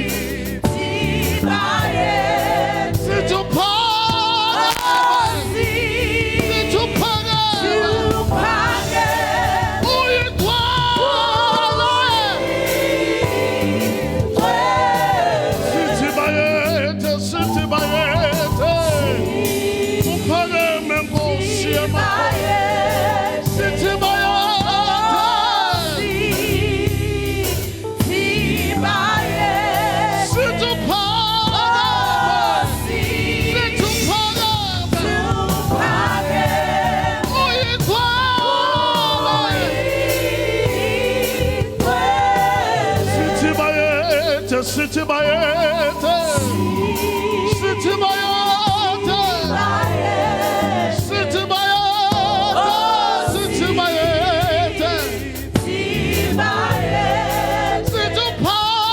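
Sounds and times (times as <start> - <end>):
choir and congregation singing: 0.0 - 58.9.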